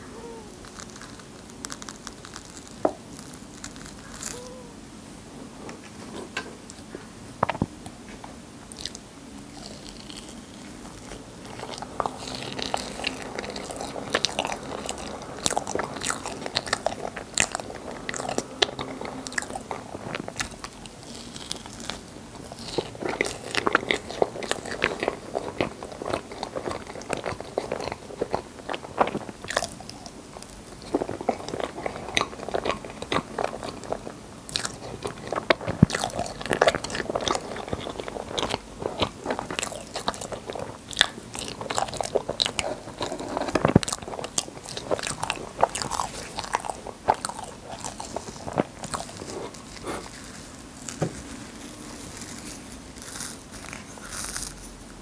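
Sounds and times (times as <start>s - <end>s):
wet chewing and lip smacking: 9.6s - 54.6s.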